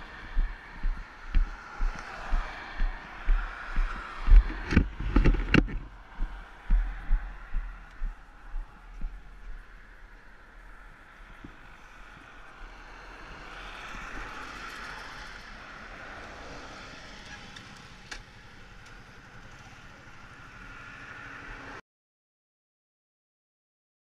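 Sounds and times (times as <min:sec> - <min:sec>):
car road and engine noise: 0:00.0 - 0:21.8.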